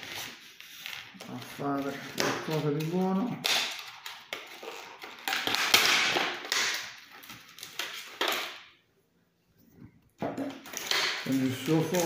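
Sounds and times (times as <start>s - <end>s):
plastic blister packaging crinkling: 0.0s - 8.8s, 10.4s - 12.0s.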